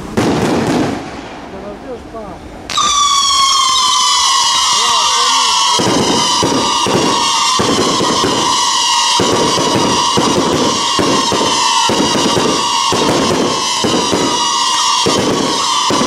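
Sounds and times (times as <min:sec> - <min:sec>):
continuous high hiss: 0:00.0 - 0:15.8
firework shell bangs: 0:02.7 - 0:16.0.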